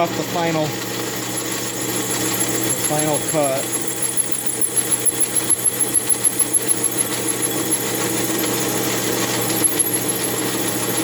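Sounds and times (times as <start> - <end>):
metal lathe whining: 0.0 - 11.0
rapid regular pulsing: 0.7 - 11.0.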